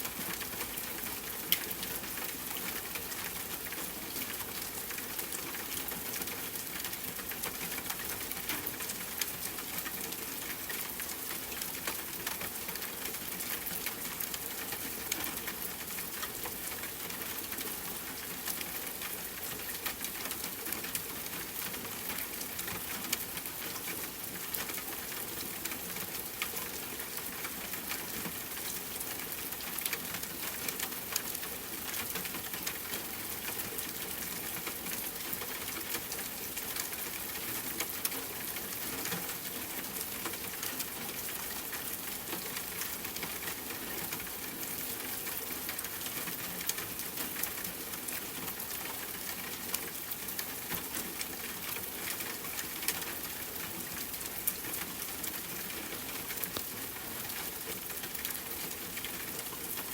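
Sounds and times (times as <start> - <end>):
rain on a tent: 0.0 - 59.9.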